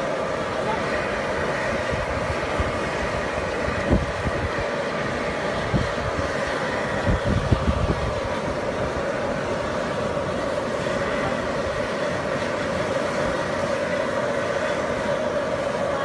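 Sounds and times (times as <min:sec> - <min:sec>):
steam vent rushing and rumbling: 0:00.0 - 0:16.0.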